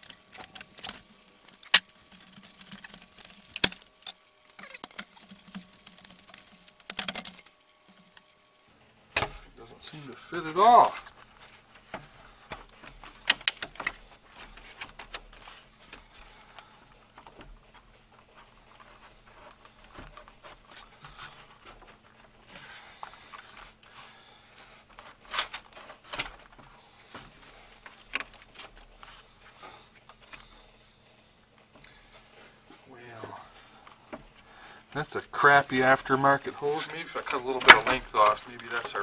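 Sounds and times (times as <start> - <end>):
hands working rubber hose: 0.0 - 39.0.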